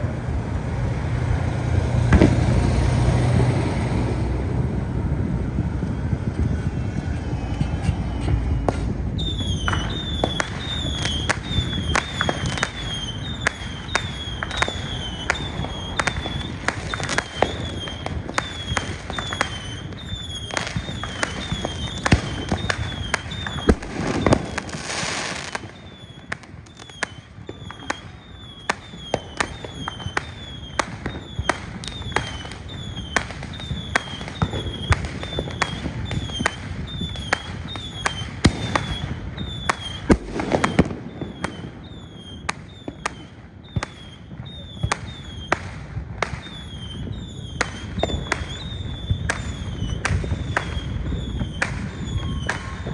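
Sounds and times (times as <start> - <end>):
fireworks bangs: 0.0 - 52.9
falling whistle: 5.8 - 45.6, 46.3 - 52.9.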